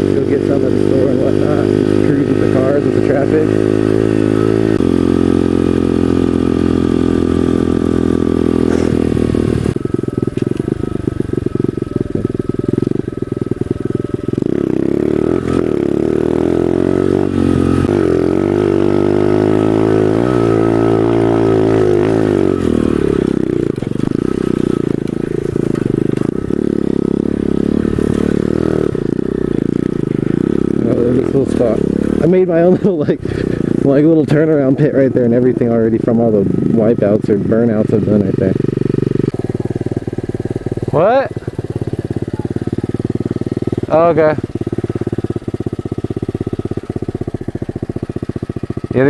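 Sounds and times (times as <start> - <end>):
small motorbike engine revving: 0.0 - 49.0.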